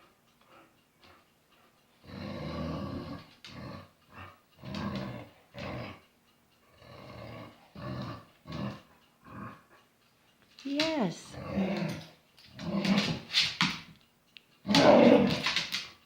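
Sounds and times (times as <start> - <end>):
pet growling: 0.5 - 10.0, 11.0 - 13.9, 14.6 - 15.9.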